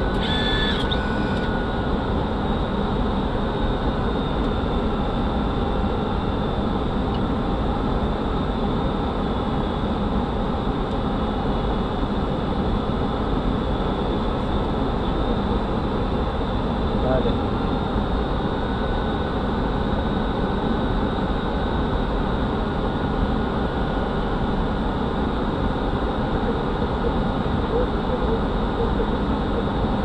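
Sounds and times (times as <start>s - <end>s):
airflow and engine noise: 0.0s - 30.0s.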